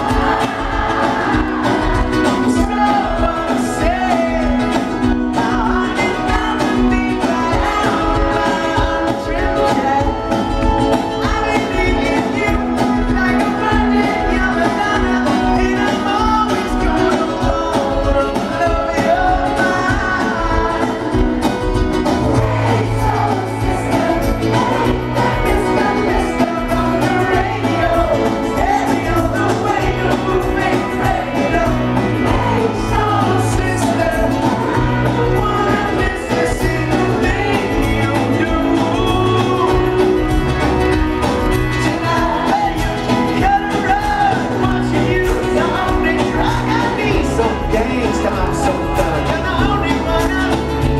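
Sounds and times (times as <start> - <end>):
bass line: 0.0 - 50.9
lead singer: 0.0 - 50.9
live pop-rock band: 0.0 - 50.9.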